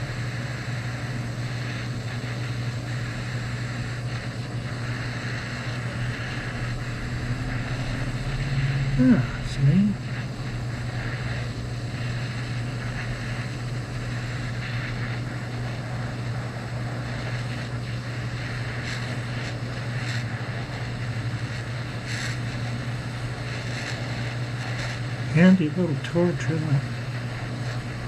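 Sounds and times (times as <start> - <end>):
gas torch burning: 0.0 - 28.0.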